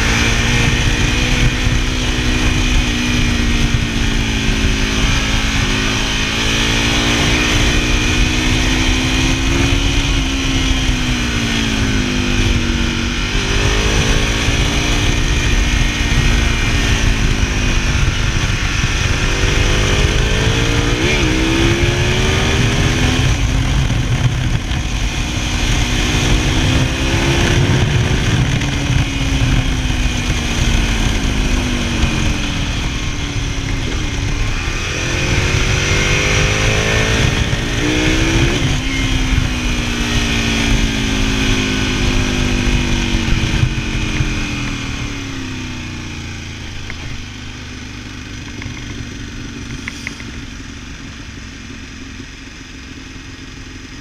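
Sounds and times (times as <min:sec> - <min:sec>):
wind rushing: 0:00.0 - 0:44.8
motorcycle engine revving: 0:00.0 - 0:54.0.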